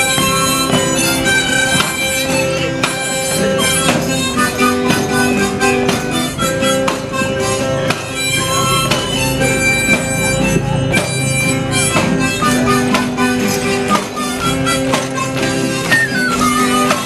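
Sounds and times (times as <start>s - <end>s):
acoustic guitar strumming: 0.0s - 17.0s
harmonica playing: 0.0s - 17.0s
small pipe playing: 0.0s - 17.0s.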